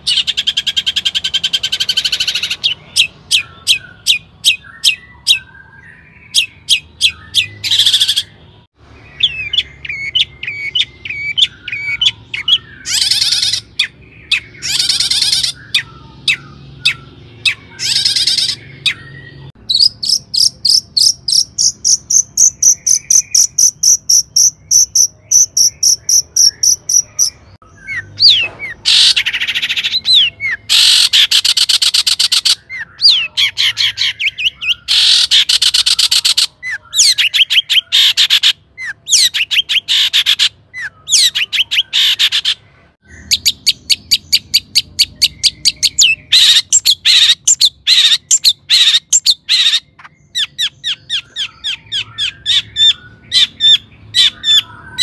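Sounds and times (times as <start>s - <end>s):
shrike singing: 0.0s - 55.0s.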